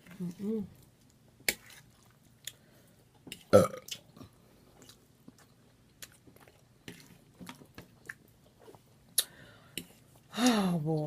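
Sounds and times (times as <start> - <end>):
person chewing food: 0.8 - 10.3.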